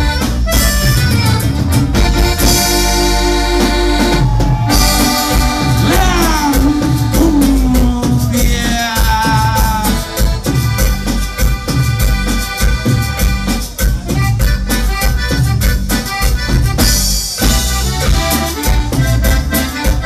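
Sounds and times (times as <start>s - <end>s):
accordion: 0.0s - 20.0s
drums: 0.0s - 20.0s
electric bass: 0.0s - 20.0s.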